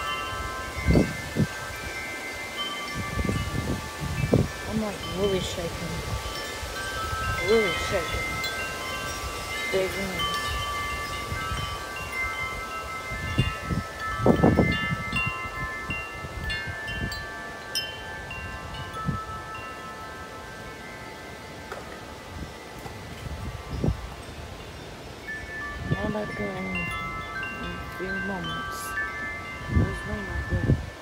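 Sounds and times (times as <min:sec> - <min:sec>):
metal wind chime ringing: 0:00.0 - 0:31.0
wind rumbling on microphone: 0:00.0 - 0:31.0.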